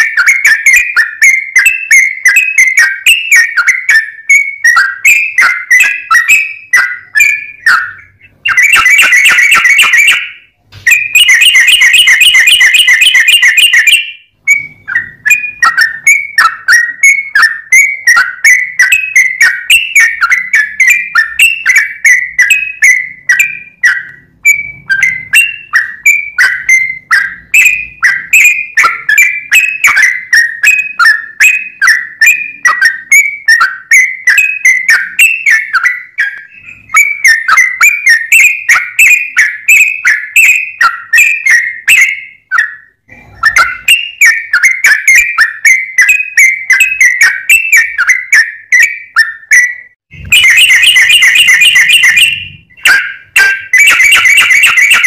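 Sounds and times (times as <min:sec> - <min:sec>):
bird fast dense trill: 0:00.0 - 0:55.0
bird singing quick chirps: 0:00.0 - 0:55.0.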